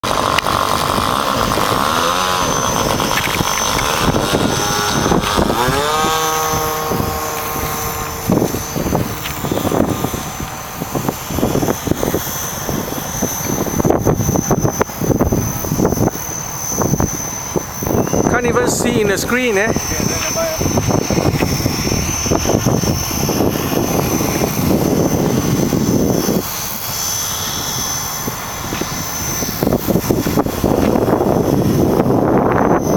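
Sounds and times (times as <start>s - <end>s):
heavy low rumble: 0.0s - 32.9s
model plane engine running: 0.0s - 32.9s.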